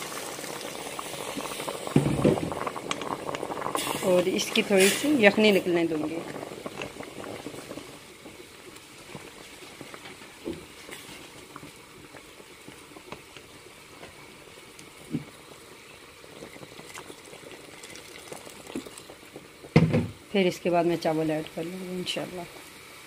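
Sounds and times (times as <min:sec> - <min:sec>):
pot bubbling at a boil: 0:00.0 - 0:23.0.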